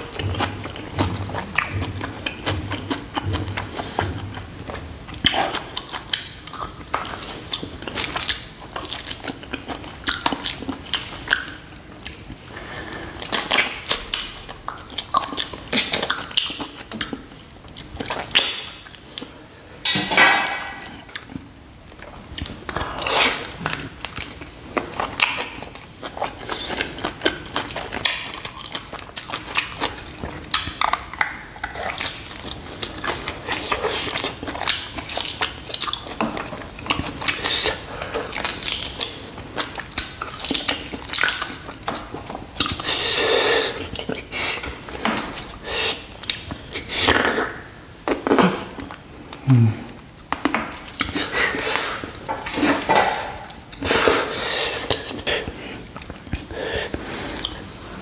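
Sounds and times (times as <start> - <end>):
chewing and lip smacks: 0.0 - 12.4, 13.2 - 49.4, 50.3 - 53.9.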